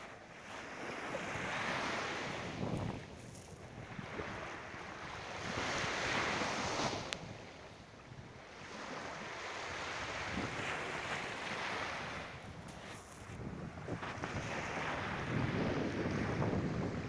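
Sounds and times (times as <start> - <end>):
wind rumbling on microphone: 0.0 - 9.2, 9.8 - 17.0
waves washing onto sandy shore: 0.0 - 17.0.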